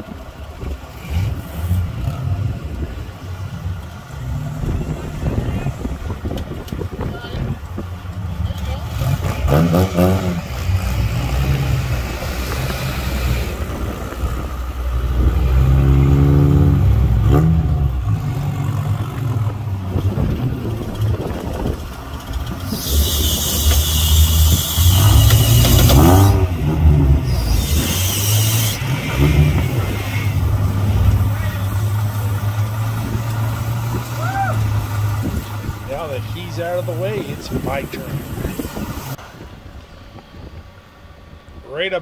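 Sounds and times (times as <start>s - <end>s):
suv engines revving under load: 0.0s - 39.5s.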